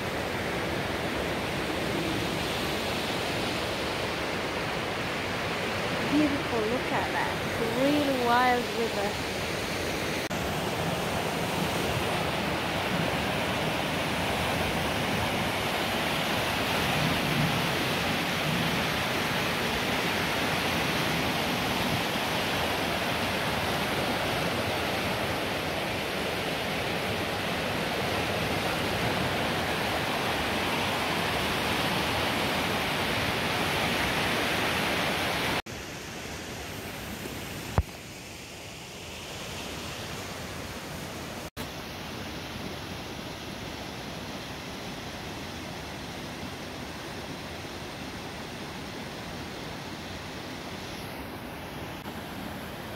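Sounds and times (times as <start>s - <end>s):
river rushing over rapids: 0.0s - 52.9s.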